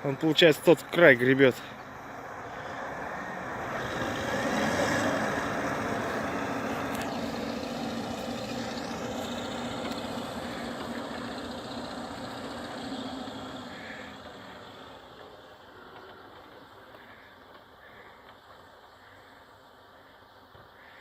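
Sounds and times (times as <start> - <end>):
tractor diesel engine under load: 0.0 - 19.8.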